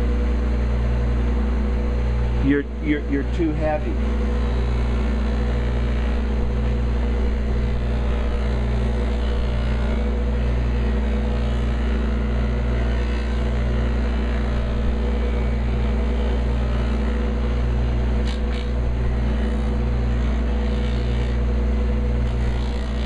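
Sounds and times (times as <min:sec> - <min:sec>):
bench buffer motor humming: 0:00.0 - 0:23.0.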